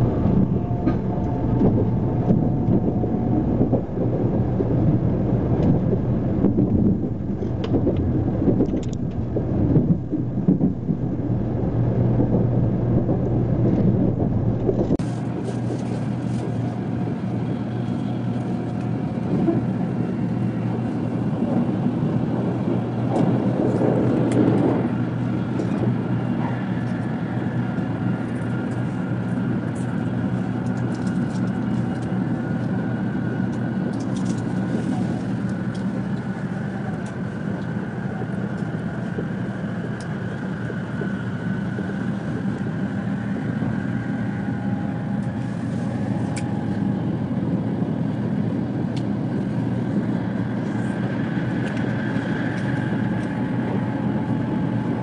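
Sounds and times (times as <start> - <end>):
train wheels low rumble: 0.0 - 55.0.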